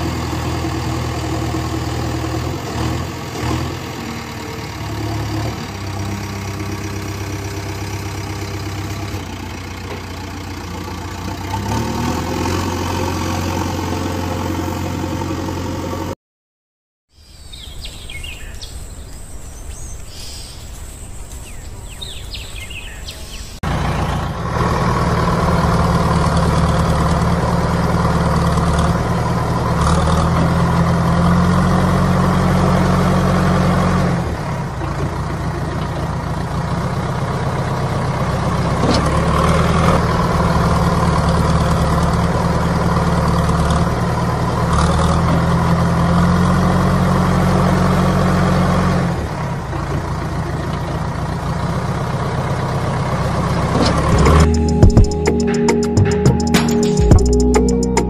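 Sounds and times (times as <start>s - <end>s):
diesel engine running at low revs: 0.0s - 16.2s, 21.4s - 58.0s.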